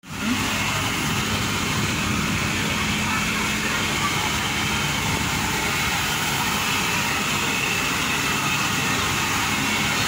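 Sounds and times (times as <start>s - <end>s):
steam hissing: 0.1s - 10.0s.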